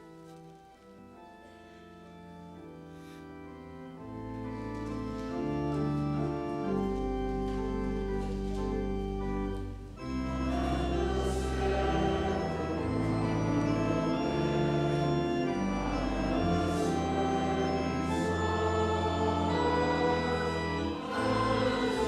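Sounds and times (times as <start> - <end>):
church organ chords: 0.0 - 22.0
deep organ pedal bass notes: 1.1 - 22.0.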